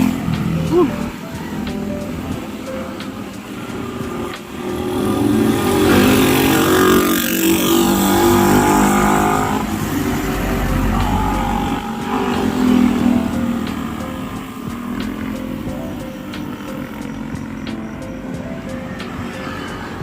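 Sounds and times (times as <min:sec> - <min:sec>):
vehicle passing: 0:00.0 - 0:20.0.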